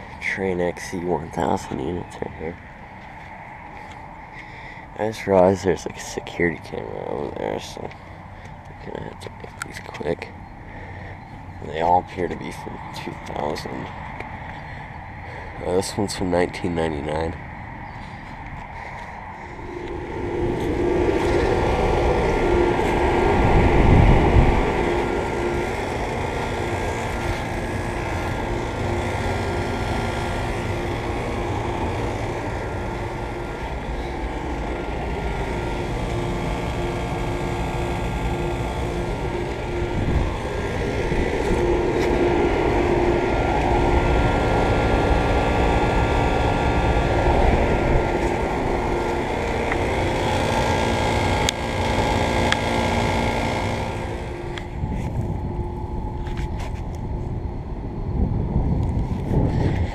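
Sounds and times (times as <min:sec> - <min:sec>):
air conditioner units humming: 0:00.0 - 0:59.9.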